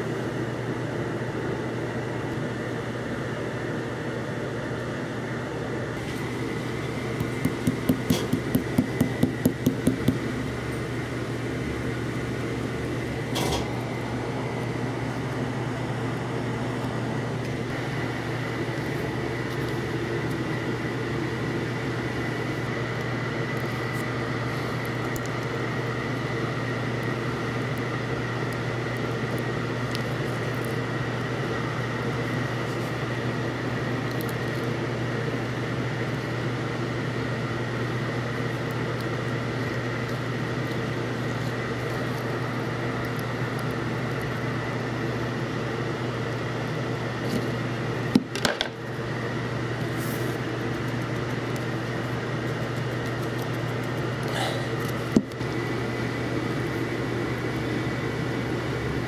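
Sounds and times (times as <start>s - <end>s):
appliance low hum: 0.0s - 59.0s.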